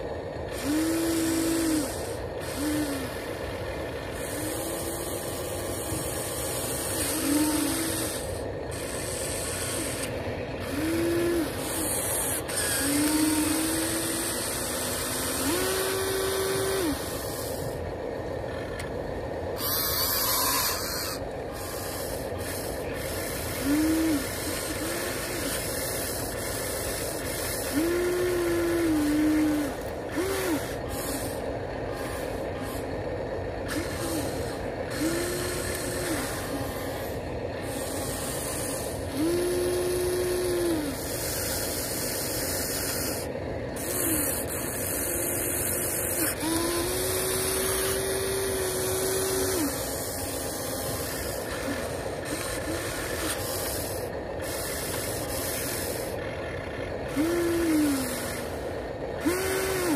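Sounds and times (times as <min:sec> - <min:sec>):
electric motors whining: 0:00.0 - 0:59.9
steady background noise: 0:00.0 - 0:59.9.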